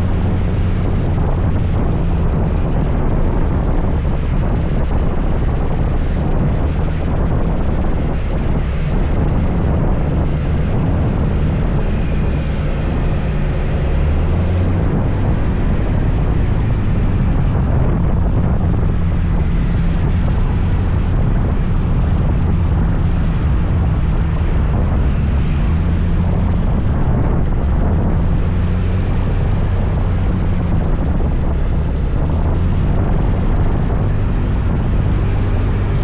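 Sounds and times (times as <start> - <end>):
scooter engine drone: 0.0 - 36.0
tyre noise on road: 0.0 - 36.0
wind rumble on microphone: 0.0 - 36.0.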